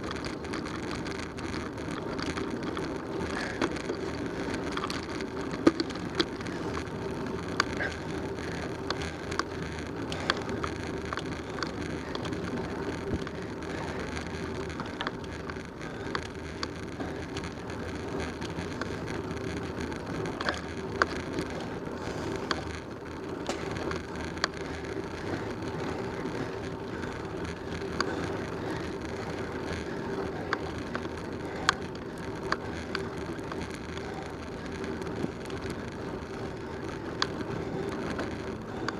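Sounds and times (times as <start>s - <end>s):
bicycle clicks and rattles: 0.0s - 38.9s
bicycle tyre road noise: 0.0s - 38.9s.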